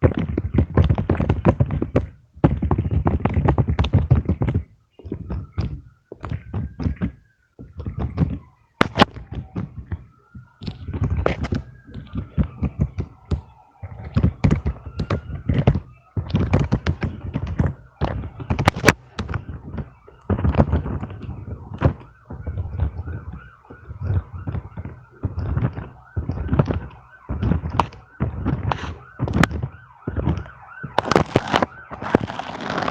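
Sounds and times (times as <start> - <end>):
fidget toys tapping and thudding: 0.0 - 32.9.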